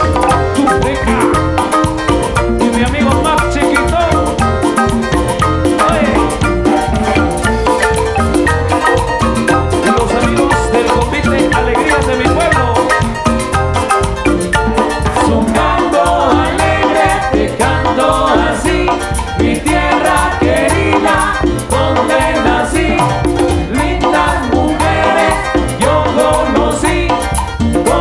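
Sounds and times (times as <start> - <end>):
latin dance band music: 0.0 - 28.0.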